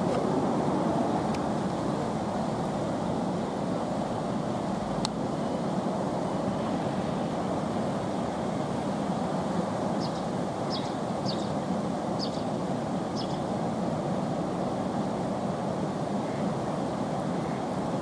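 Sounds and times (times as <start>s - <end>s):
water rushing over weir: 0.0s - 18.0s.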